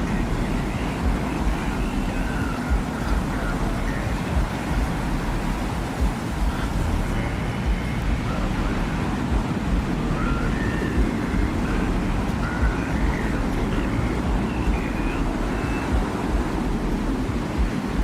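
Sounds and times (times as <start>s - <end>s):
faint whistling tones: 0.0s - 18.0s
gusty low thuds: 0.0s - 18.0s
rumbling wind: 0.0s - 18.0s.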